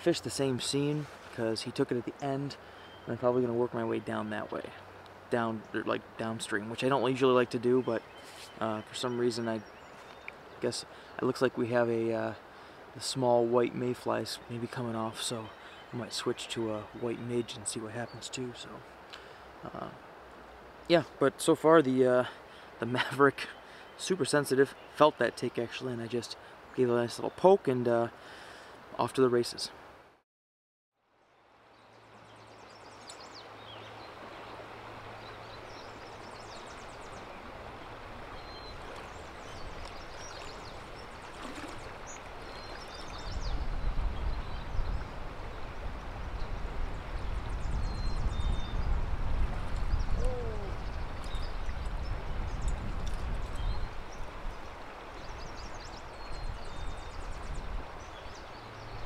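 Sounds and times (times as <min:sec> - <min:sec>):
stream water rushing: 0:00.0 - 0:30.1, 0:31.4 - 0:47.7, 0:48.4 - 0:59.0.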